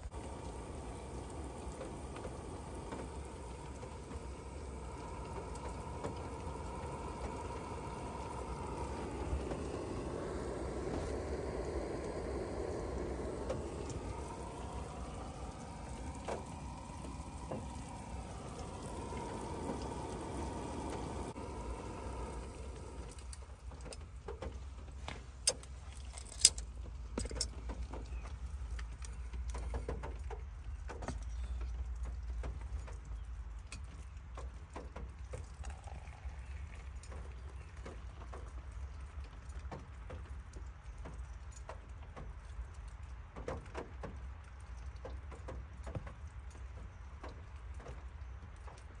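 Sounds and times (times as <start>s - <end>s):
gas stove burning: 0.0s - 42.4s
low steady rumble: 0.0s - 43.1s.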